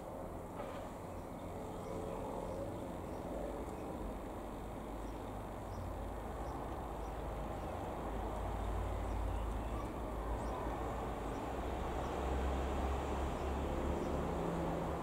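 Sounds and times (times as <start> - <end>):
propeller plane engine overhead: 0.0 - 15.0.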